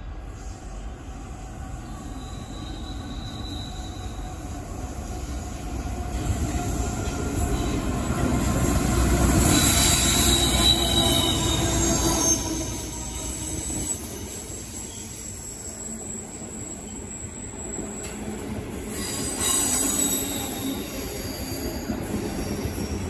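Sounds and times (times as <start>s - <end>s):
locomotive engine and wheels rumbling: 0.0s - 23.0s
train wheels squealing: 0.0s - 23.0s.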